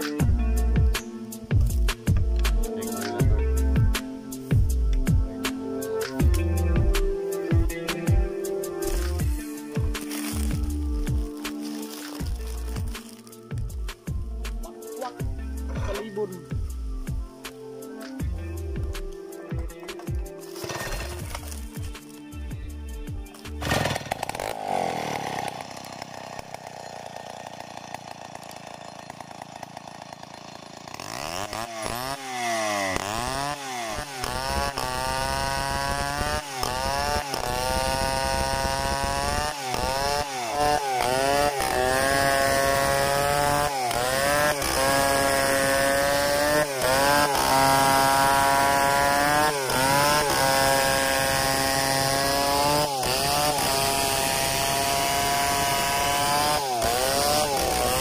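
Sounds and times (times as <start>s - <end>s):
chainsaw cutting log: 5.5s - 18.2s, 19.9s - 22.3s, 23.3s - 58.0s.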